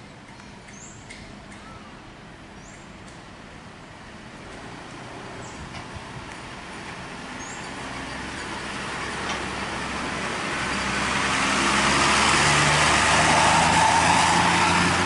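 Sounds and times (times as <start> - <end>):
bus diesel engine: 0.0 - 15.0
rushing noise of passing bus: 0.2 - 15.0.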